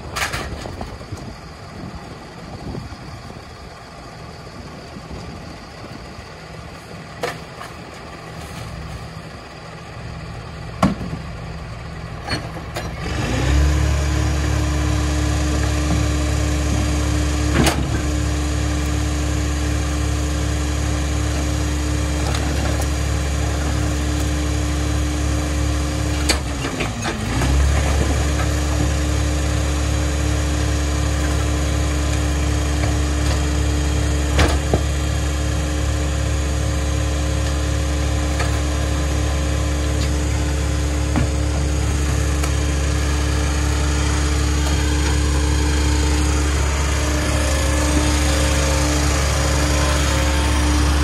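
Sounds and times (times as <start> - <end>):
garbage truck diesel engine revving: 0.0 - 51.0.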